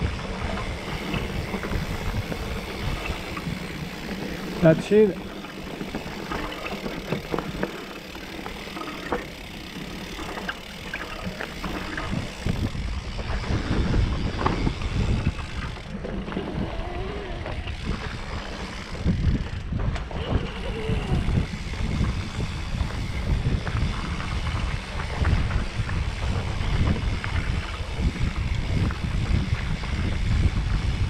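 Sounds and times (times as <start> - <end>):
bike rattling over bumps: 0.0 - 31.0
tyres on loose dirt: 0.0 - 31.0
wind buffeting microphone: 0.0 - 31.0.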